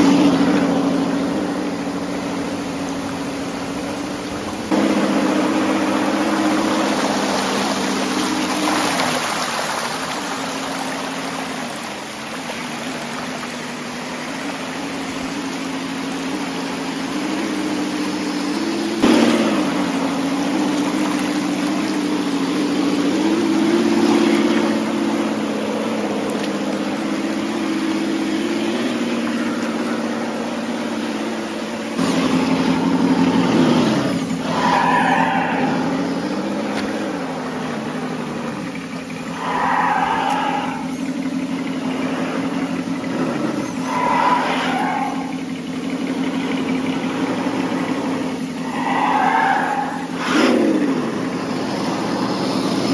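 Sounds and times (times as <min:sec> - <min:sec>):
stream water splashing: 0:00.0 - 0:52.9.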